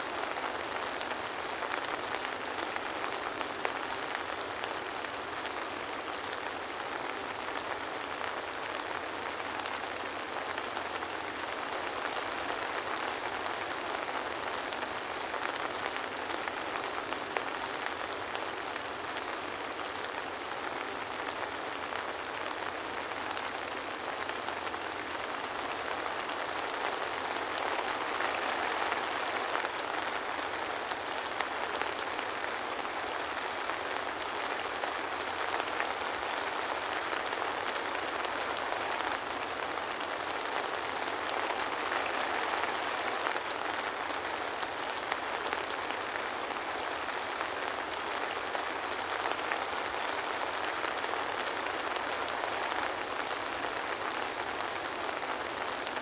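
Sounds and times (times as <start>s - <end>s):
soft rain pattering: 0.0s - 56.0s.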